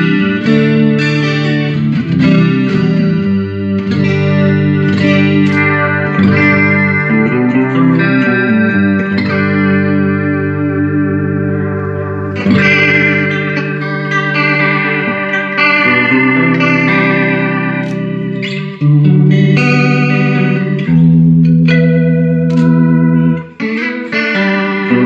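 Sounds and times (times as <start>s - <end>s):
electric guitar chords with chorus: 0.0s - 25.0s.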